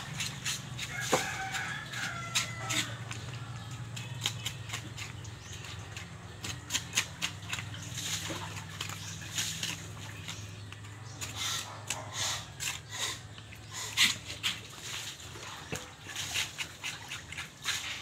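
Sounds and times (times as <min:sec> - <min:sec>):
hands scraping hair off carcass: 0:00.0 - 0:15.0.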